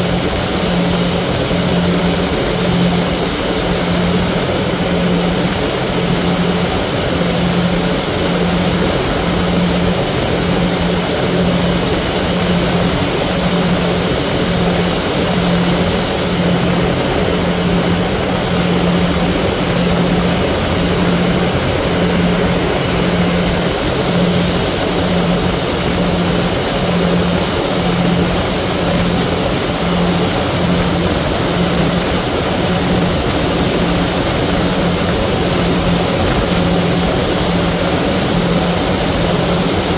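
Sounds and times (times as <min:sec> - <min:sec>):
ferry engine throbbing hum: 0:00.0 - 0:39.9
rush of wind and water: 0:00.0 - 0:39.9.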